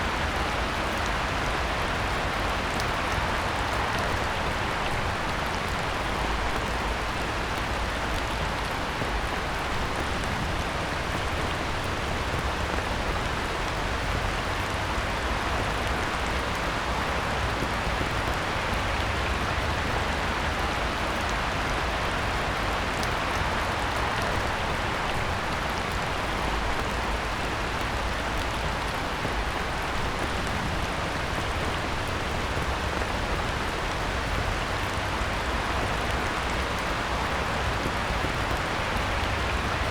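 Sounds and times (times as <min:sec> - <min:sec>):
heavy rain falling on a pond: 0:00.0 - 0:39.9.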